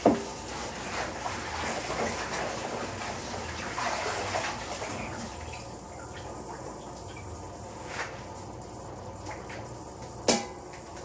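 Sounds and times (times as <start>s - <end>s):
water heating with hiss and crackles: 0.0s - 11.0s.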